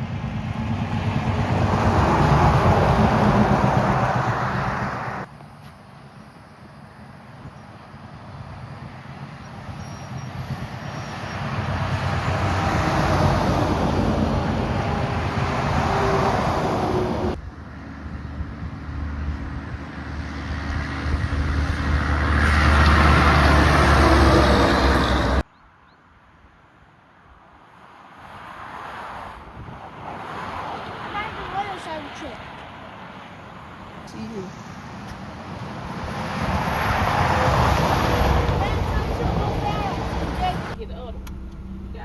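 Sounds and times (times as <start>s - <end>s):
trucks passing by: 0.0s - 25.5s, 27.4s - 42.0s.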